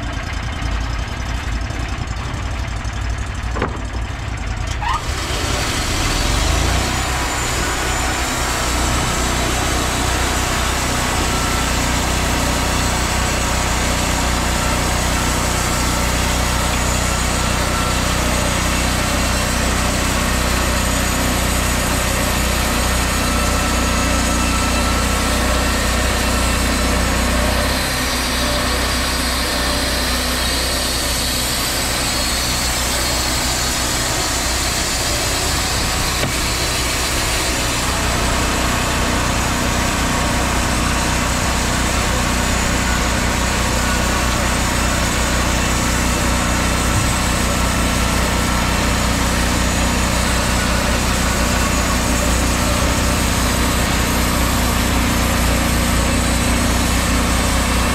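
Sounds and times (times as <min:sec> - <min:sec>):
band sawmill cutting log: 0:00.0 - 0:57.9.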